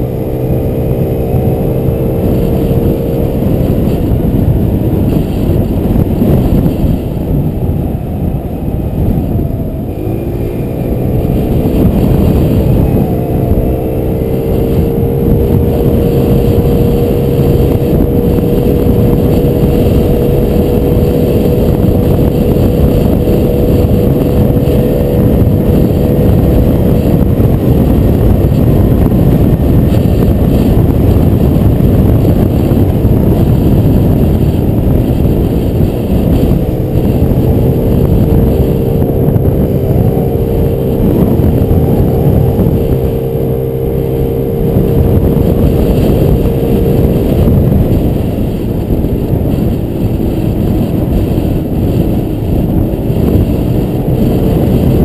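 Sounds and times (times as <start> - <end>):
scooter engine running: 0.0 - 55.0
wind buffeting microphone: 0.0 - 55.0.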